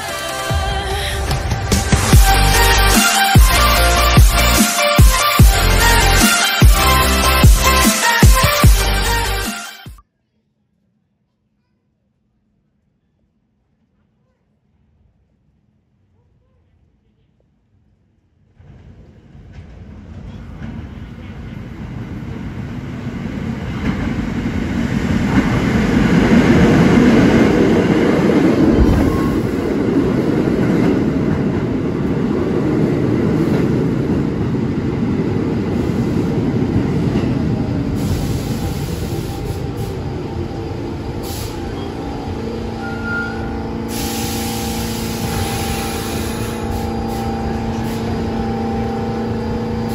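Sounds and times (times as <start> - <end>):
subway train rumbling and braking: 0.0 - 9.8, 16.4 - 49.9.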